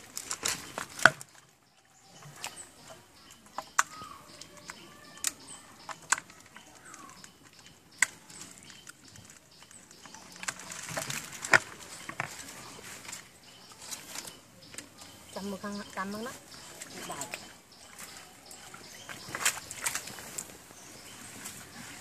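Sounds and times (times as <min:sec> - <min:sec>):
faint rustling of leaves: 0:00.0 - 0:22.0.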